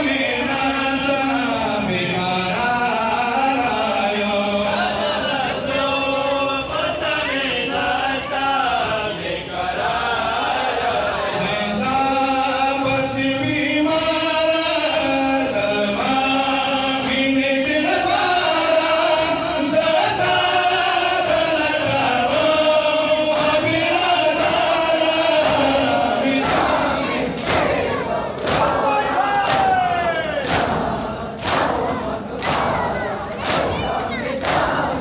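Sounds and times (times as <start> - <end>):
men chanting a lament: 0.0 - 35.0.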